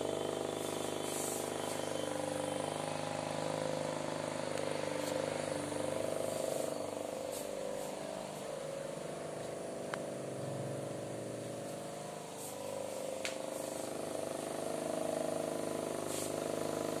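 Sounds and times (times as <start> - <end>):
table fan motor humming: 0.0 - 17.0.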